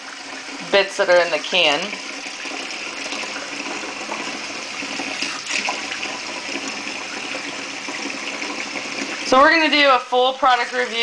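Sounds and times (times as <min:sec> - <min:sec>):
water poured into a bowl: 0:00.0 - 0:09.3.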